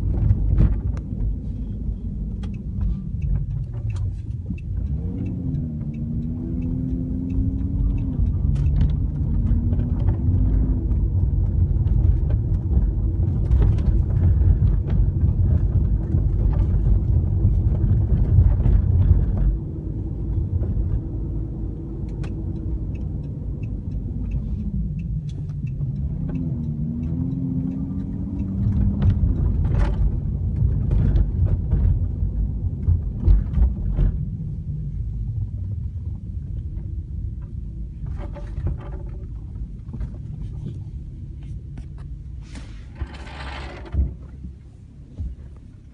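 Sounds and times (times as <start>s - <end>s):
faint clicks and ticks: 0.0s - 42.3s
car road and engine rumble: 0.0s - 45.9s.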